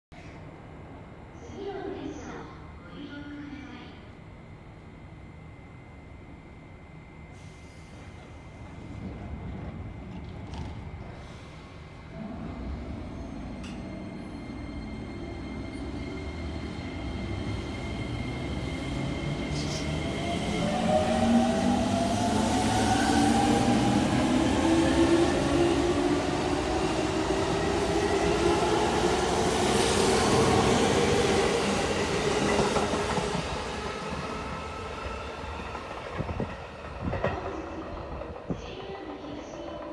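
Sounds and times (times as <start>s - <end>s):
train wheels rumbling on rails: 7.9s - 39.9s.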